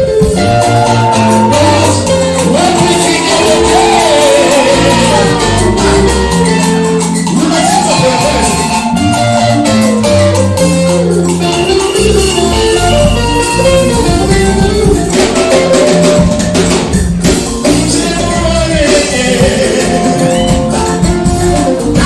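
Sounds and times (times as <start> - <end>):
drums and percussion: 0.0 - 22.0
live worship band music: 0.0 - 22.0.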